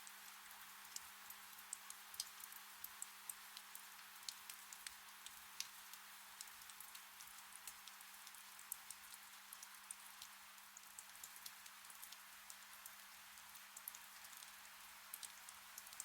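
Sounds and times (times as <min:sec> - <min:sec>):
gentle rain pattering: 0:00.0 - 0:16.0.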